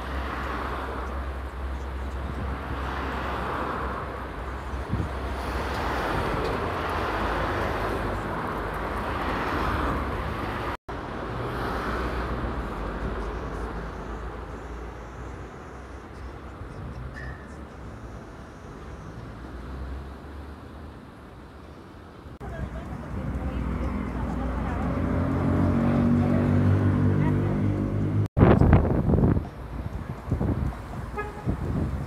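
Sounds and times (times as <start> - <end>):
road and traffic noise: 0.0 - 32.0.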